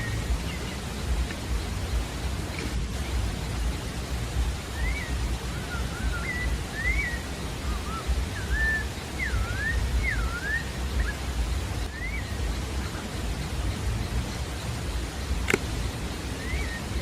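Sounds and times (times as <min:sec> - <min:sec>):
low rushing background noise: 0:00.0 - 0:17.0.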